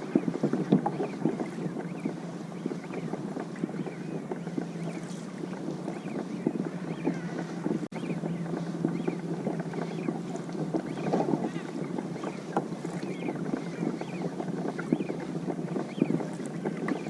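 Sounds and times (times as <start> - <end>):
water splashing against hull: 0.0 - 17.0
wind on microphone: 0.0 - 17.0.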